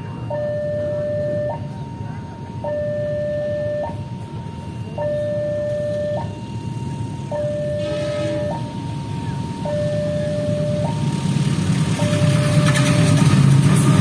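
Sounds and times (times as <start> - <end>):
level crossing two-tone alarm: 0.0 - 13.4
low rumble of approaching train: 0.0 - 14.0.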